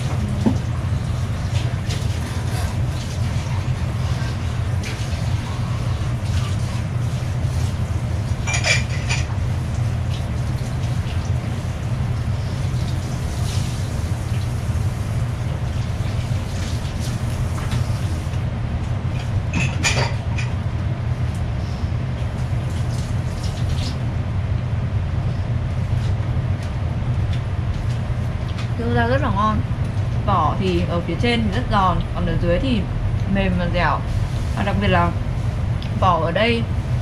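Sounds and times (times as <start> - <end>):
low machinery drone: 0.0 - 37.0.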